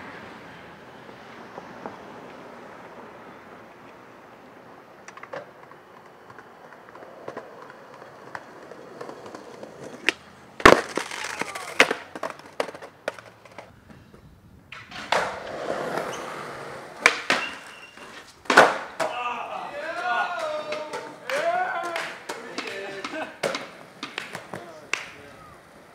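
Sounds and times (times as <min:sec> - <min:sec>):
skateboard wheels rolling: 0:00.0 - 0:25.9
skateboard clacks: 0:03.8 - 0:13.7, 0:14.7 - 0:25.9.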